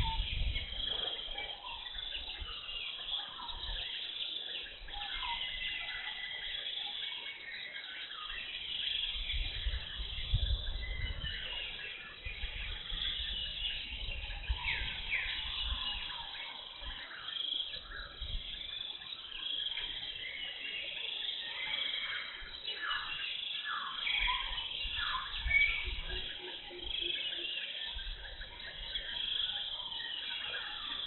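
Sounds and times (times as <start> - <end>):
birds calling and chirping: 0.0 - 31.0.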